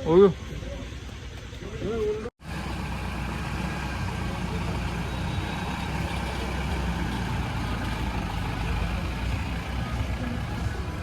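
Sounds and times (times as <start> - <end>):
truck engine rumbling: 2.1 - 11.0.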